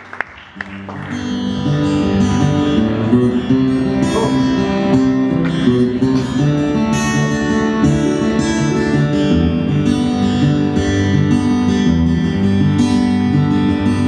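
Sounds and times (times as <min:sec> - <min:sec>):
strummed acoustic guitar: 0:00.6 - 0:14.0.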